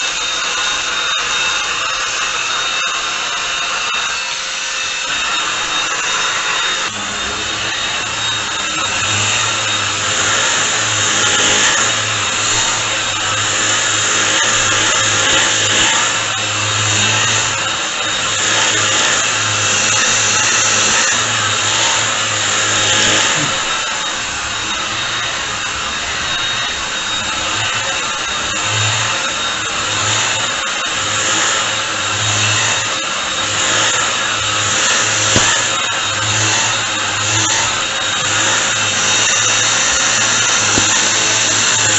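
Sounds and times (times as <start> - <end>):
brush head humming: 0.0 - 41.9
vacuum cleaner motor whooshing: 0.0 - 41.9.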